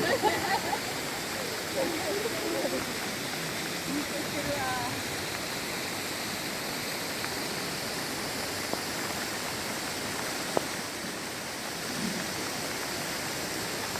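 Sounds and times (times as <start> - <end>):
river rushing: 0.0 - 13.9.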